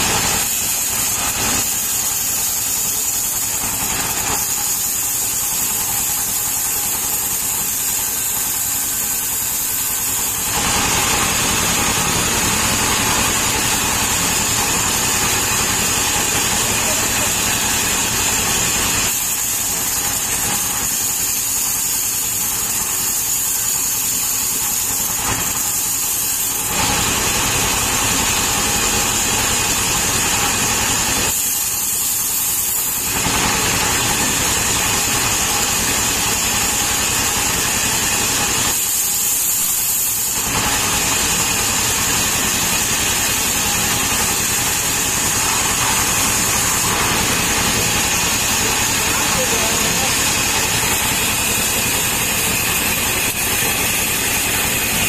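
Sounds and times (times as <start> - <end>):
diesel engine running: 0.0 - 31.4, 40.2 - 55.0
band saw cutting log: 0.0 - 55.0.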